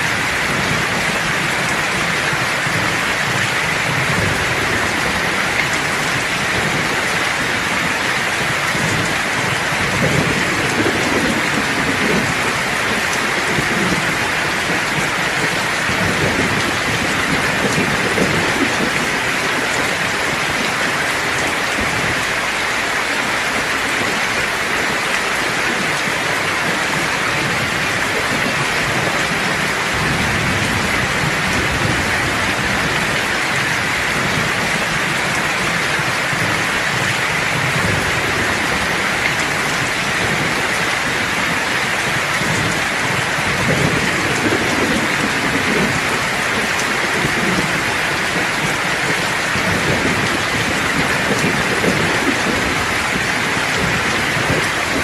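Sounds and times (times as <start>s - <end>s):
heavy rain: 0.0s - 55.0s
thunder rolling: 0.0s - 55.0s.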